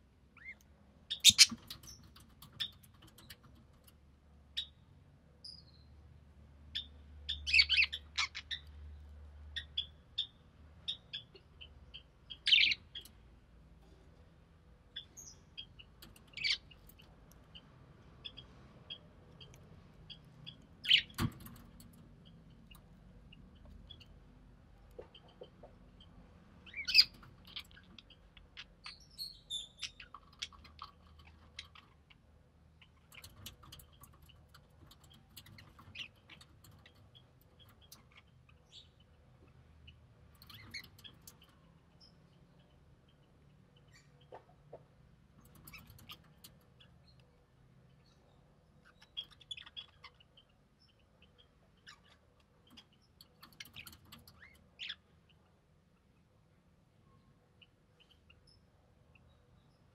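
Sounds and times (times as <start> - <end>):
budgerigars chirping and squeaking: 0.4 - 3.9, 6.7 - 13.3, 14.9 - 47.3, 48.0 - 55.4
birds moving and scratching: 0.4 - 5.3, 10.6 - 56.0.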